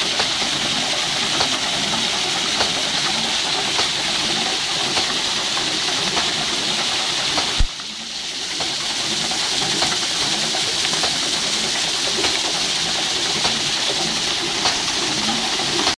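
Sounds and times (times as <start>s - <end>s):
water splashing on wheel paddles: 0.0s - 16.0s.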